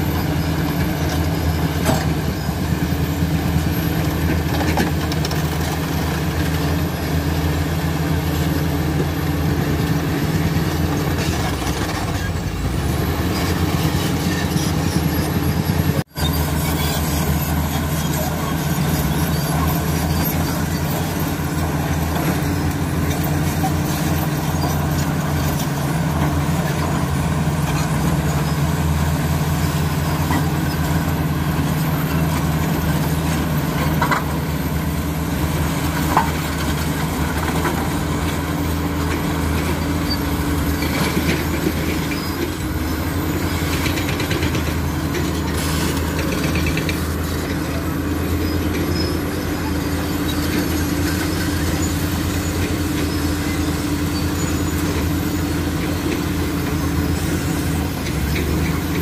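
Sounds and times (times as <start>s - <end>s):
bulldozer diesel engine running: 0.0s - 59.0s
bulldozer pushing rock and soil: 0.0s - 59.0s.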